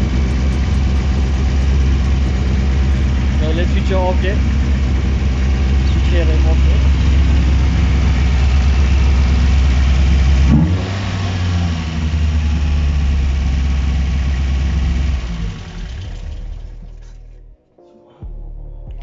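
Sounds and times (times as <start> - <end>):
loud car engine idling: 0.0 - 17.4.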